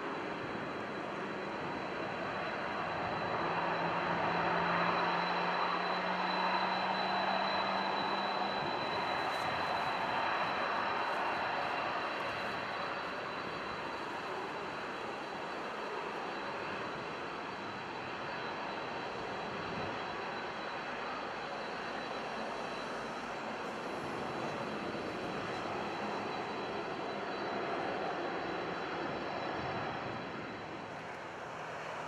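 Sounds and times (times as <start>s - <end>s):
jet engines rushing hum: 0.0s - 32.0s.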